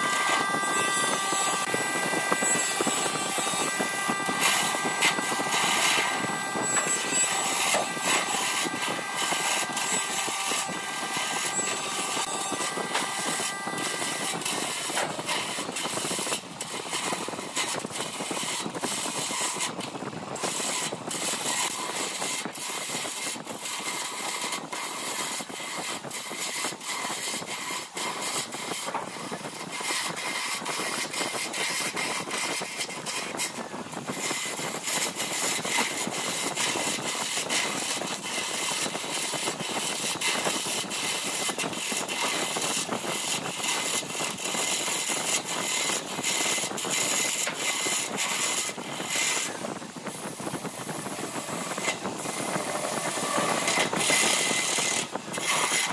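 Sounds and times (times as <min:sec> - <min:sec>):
wood lathe cutting hiss: 0:00.0 - 0:55.9.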